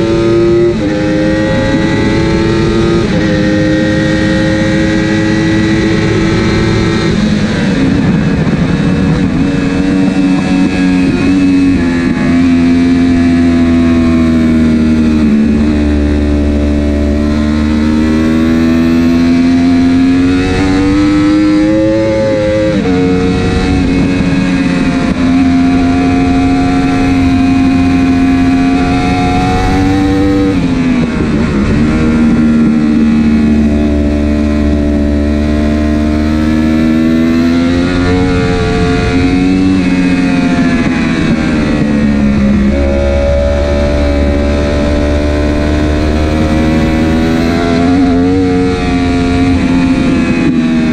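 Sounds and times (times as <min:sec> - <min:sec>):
superbike engine accelerating: 0:00.0 - 0:50.9
wind and road noise: 0:00.0 - 0:50.9.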